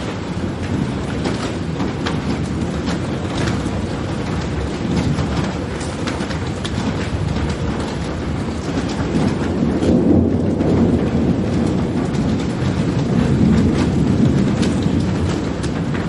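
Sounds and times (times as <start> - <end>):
low thunder rumble: 0.0 - 16.0
steady rain falling: 0.0 - 16.0.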